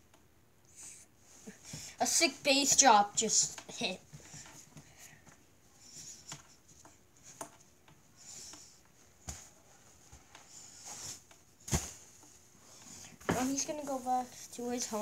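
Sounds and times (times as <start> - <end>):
faint rustling: 0.7 - 15.0.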